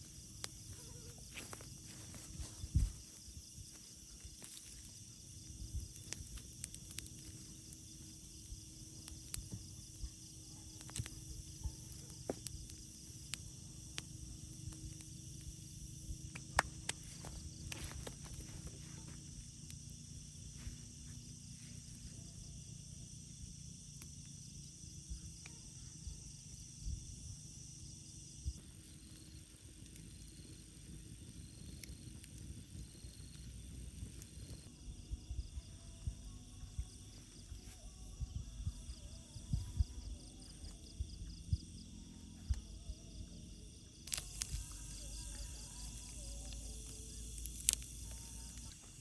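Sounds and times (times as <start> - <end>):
insect chirring: 0.0 - 49.0.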